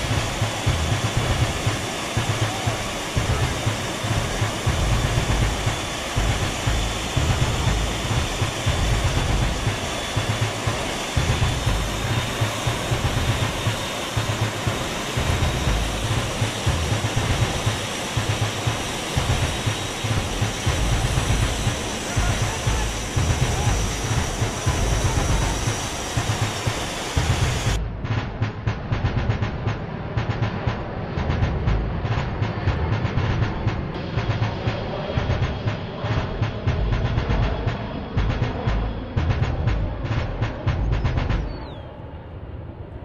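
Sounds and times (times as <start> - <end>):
airstream and jet engine rush: 0.0 - 43.0
wind buffeting rumble: 0.0 - 43.0.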